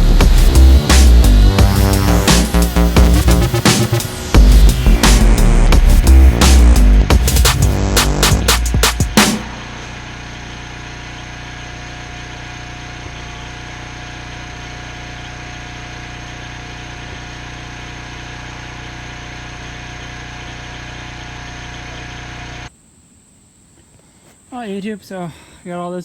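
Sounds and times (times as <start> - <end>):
welding machine engine idling: 0.0 - 22.7.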